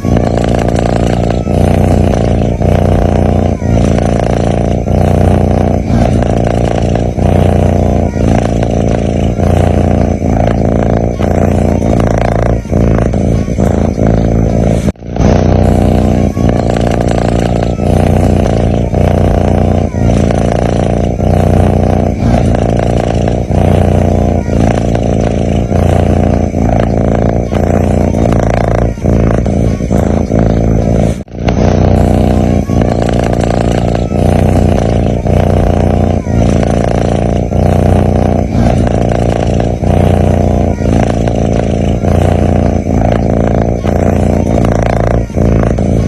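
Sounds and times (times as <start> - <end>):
kitten snoring: 0.0 - 46.0.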